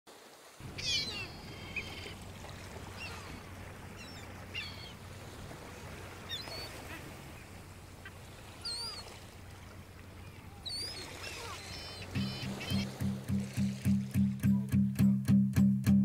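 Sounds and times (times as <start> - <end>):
ocean wash: 0.1 - 15.3
bird calls: 0.6 - 14.7.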